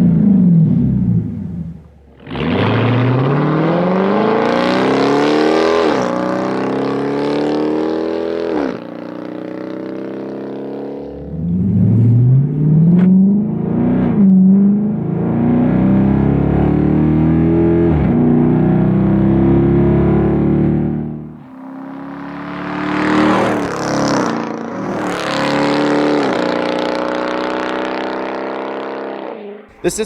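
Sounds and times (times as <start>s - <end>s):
car engine accelerating hard: 0.0s - 29.8s.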